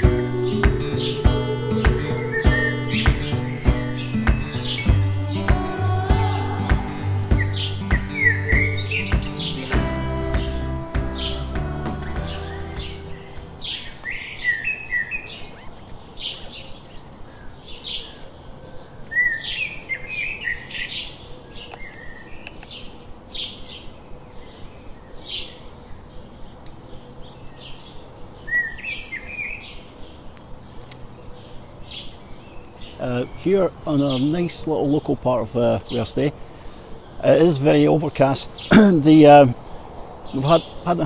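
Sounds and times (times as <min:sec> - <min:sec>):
small songbirds chirping: 0:00.0 - 0:41.0.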